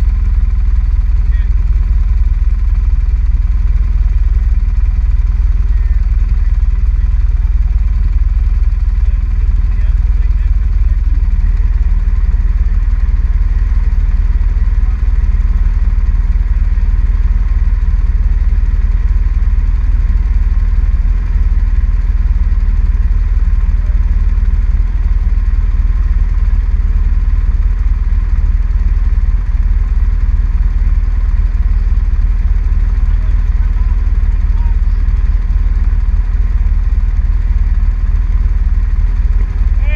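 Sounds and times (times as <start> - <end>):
atv engine idling: 0.0 - 39.9.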